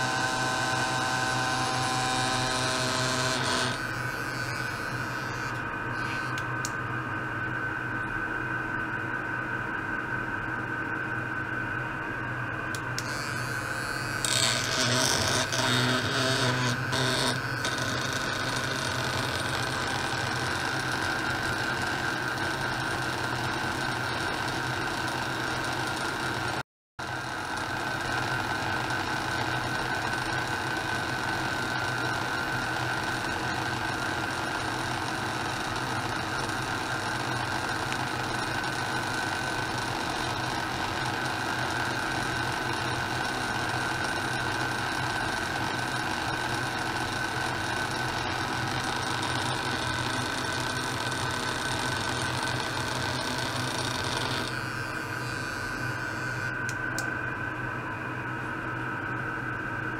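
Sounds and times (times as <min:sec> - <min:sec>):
buzzing hum with high whine: 0:00.0 - 0:59.9.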